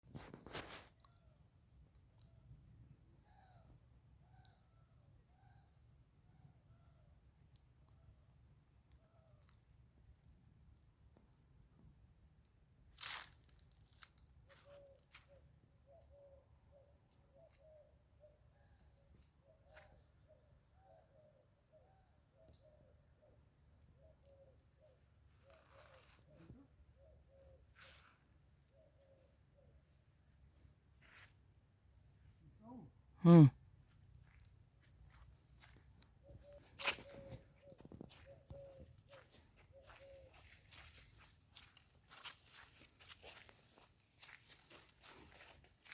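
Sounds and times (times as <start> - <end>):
insect trill: 0.0 - 45.9.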